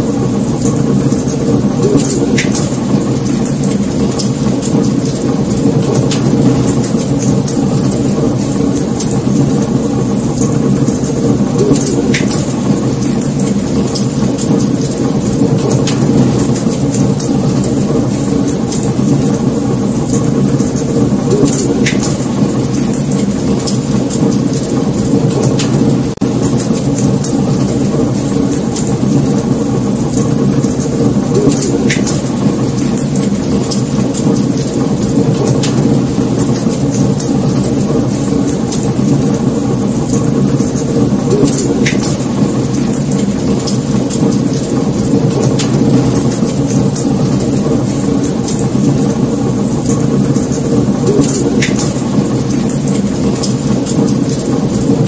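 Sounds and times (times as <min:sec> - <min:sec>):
fire crackling and popping: 0:00.0 - 0:55.0
fire flames rushing: 0:00.0 - 0:55.0.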